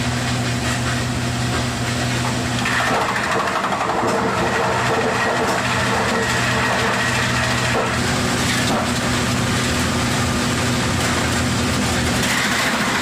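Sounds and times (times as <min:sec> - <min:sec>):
wood crusher motor hum: 0:00.0 - 0:13.0.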